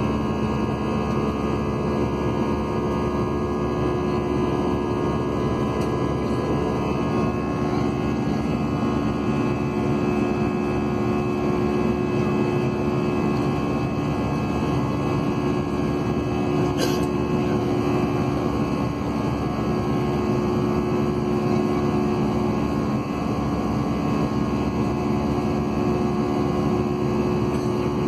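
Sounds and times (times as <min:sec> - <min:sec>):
jet engines droning in cabin: 0:00.0 - 0:28.0.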